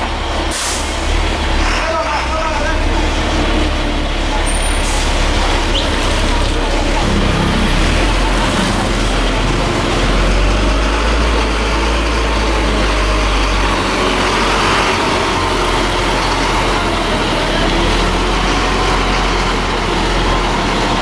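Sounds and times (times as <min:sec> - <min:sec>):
heavy vehicle engine passing: 0:00.0 - 0:21.0
tyre and road noise: 0:00.0 - 0:21.0.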